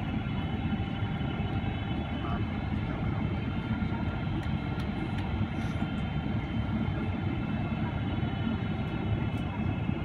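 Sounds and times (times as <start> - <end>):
airplane cabin rumble: 0.0 - 10.0
faint whining tones: 0.0 - 10.0.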